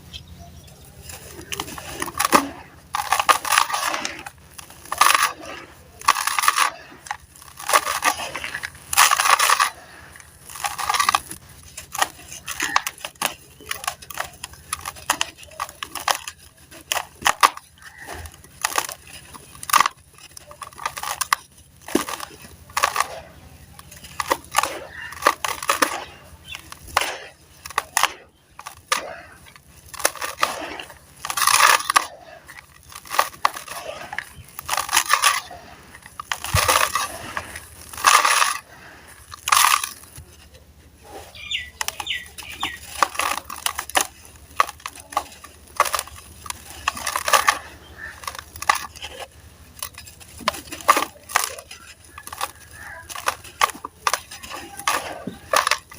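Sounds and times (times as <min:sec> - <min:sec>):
slabs crumbling and crushing: 0:01.0 - 0:55.9.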